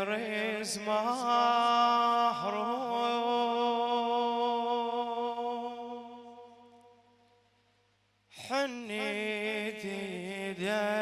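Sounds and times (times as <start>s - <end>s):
man chanting: 0.0s - 6.8s, 8.4s - 11.0s.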